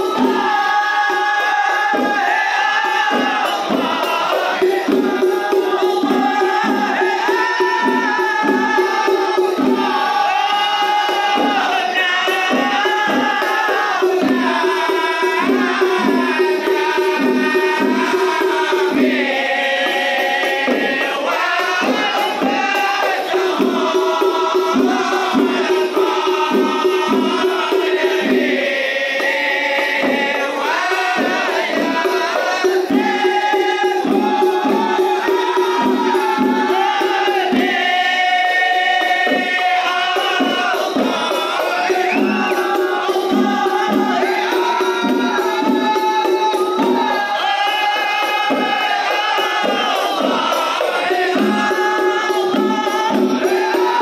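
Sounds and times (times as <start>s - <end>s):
hand-struck frame drums: 0.0s - 54.0s
men singing in unison: 0.0s - 54.0s.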